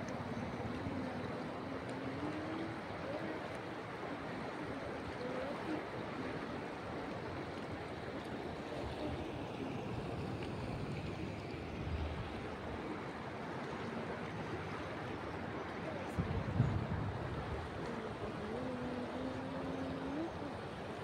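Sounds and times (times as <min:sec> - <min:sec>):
river water rushing: 0:00.0 - 0:16.4, 0:17.0 - 0:21.0.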